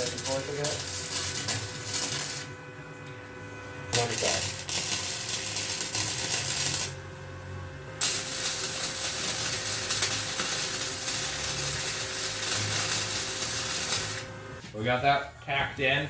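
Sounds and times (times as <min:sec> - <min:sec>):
welding arc hissing: 0:00.0 - 0:07.1, 0:07.9 - 0:14.7.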